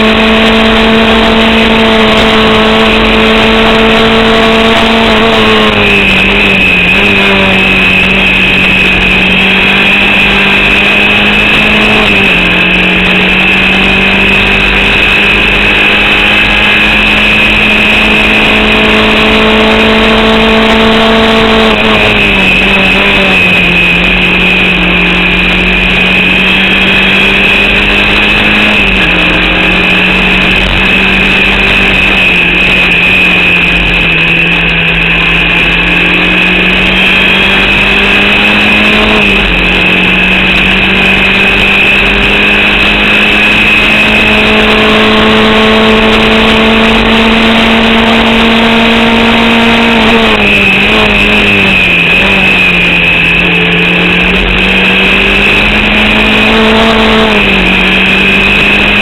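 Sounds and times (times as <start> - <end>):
high whine: 0.0 - 59.0
racing engine under load: 0.0 - 59.0.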